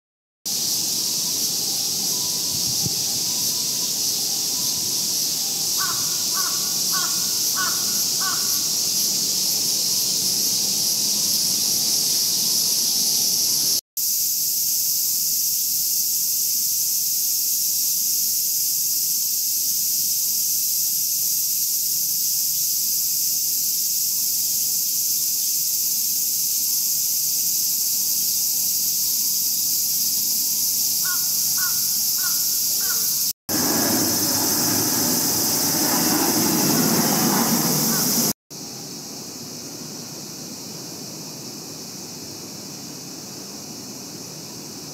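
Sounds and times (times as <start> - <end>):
cicadas buzzing: 0.5 - 44.9.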